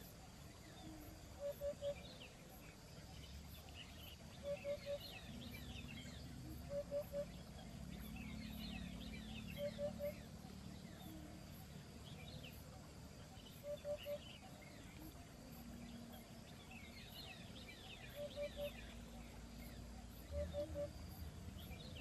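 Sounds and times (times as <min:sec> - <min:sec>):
steady low background noise: 0:00.0 - 0:22.0
bird with low call notes: 0:00.6 - 0:12.7, 0:13.3 - 0:22.0.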